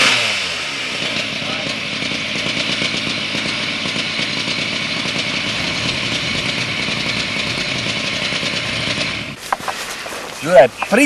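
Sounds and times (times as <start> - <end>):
small engine running: 0.0 - 10.7.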